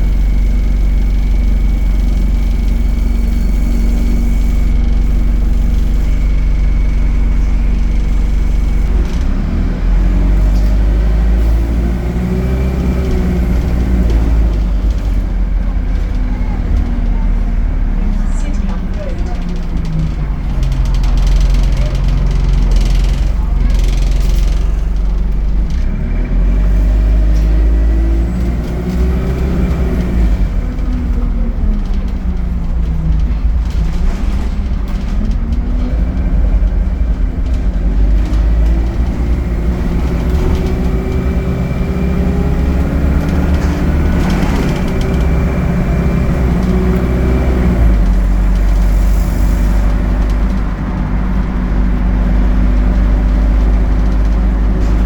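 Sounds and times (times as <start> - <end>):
bus engine revving: 0.0 - 55.0.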